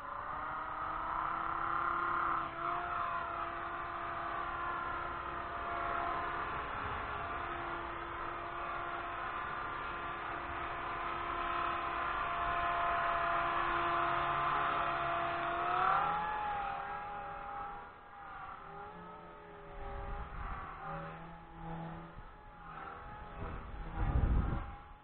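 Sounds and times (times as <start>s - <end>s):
rc helicopter motor and rotor whine: 0.0s - 25.0s.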